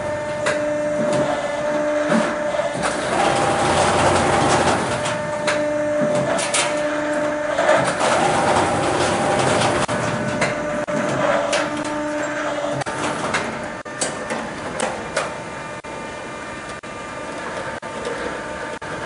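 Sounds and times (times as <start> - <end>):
machine whine: 0.0 - 19.0.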